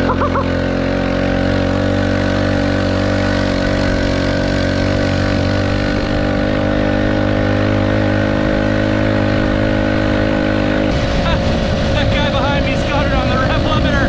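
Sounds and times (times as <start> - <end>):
moped engine running: 0.0 - 14.0
wind and road noise: 0.0 - 14.0.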